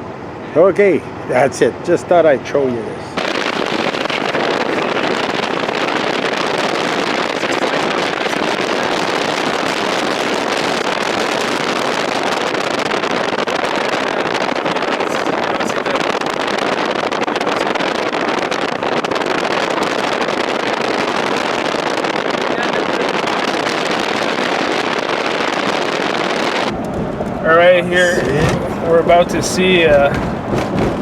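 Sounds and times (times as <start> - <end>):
wind and vehicle travel noise: 0.0 - 31.0.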